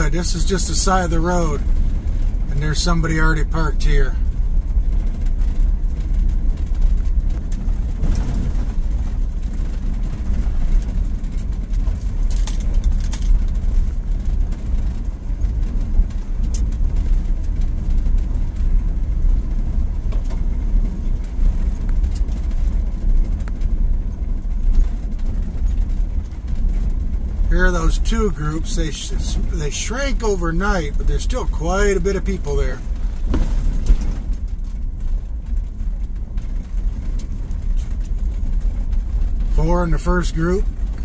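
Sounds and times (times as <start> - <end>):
rattles and clicks: 0.0 - 41.0
van rumbling on gravel road: 0.0 - 41.0.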